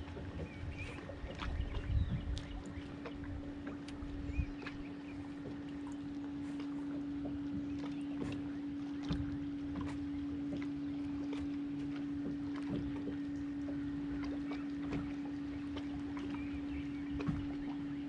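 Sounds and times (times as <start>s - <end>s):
electric trolling motor humming: 0.0s - 18.0s
water noise: 0.0s - 18.0s.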